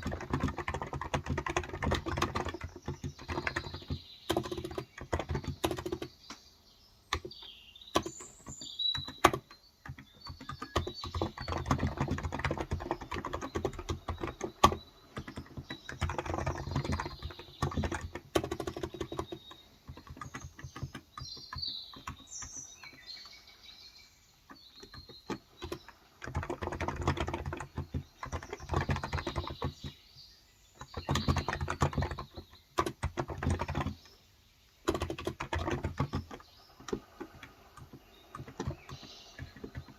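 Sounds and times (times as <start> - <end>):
keyboard typing: 0.0 - 6.1, 7.1 - 7.4, 8.0 - 23.1, 24.5 - 30.0, 30.8 - 34.2, 34.8 - 39.9
birds chirping: 0.0 - 39.9.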